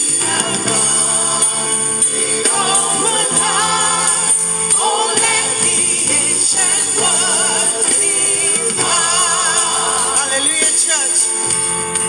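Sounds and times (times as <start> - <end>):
gospel band music: 0.0 - 12.0.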